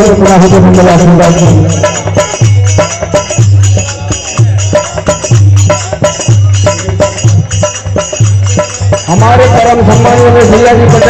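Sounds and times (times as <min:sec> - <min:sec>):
jingling hand cymbals: 0:00.0 - 0:11.0.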